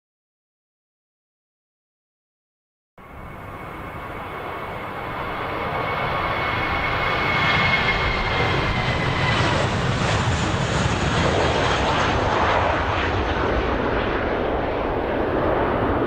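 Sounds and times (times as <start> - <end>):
jet engines at takeoff: 3.0 - 16.0.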